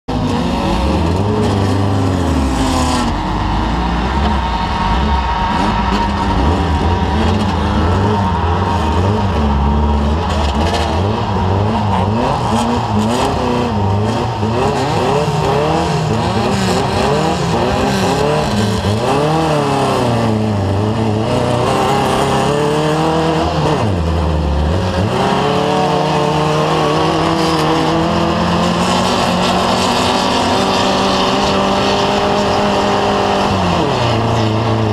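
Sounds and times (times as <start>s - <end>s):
race engine revving: 0.0s - 34.9s.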